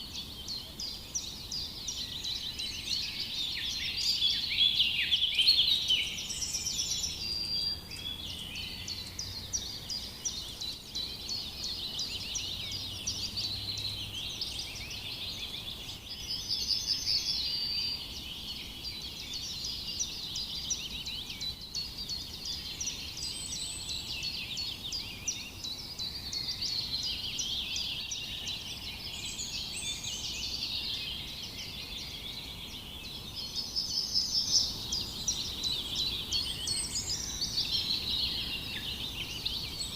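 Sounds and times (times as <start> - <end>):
chorus of birds chirping: 0.0 - 39.9
louder birdsong: 0.0 - 39.9.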